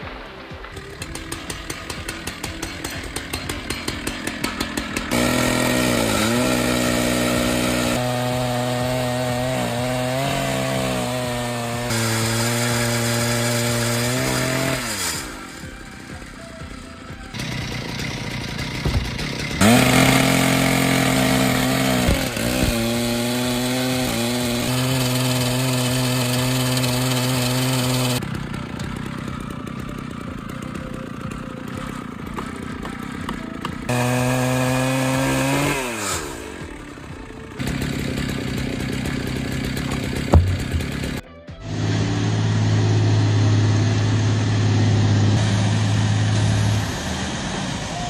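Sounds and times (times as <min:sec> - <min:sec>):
chainsaw running at high revs: 0:00.1 - 0:47.8.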